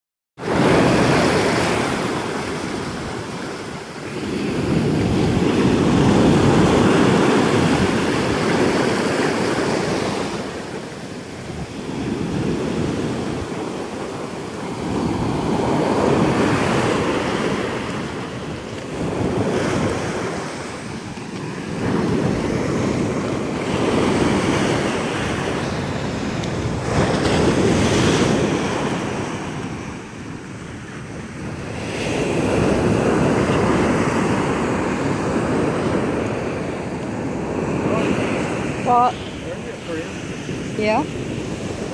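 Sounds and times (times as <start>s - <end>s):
ocean surf breaking on beach: 0.4s - 41.9s
wind buffeting microphone: 0.4s - 41.9s.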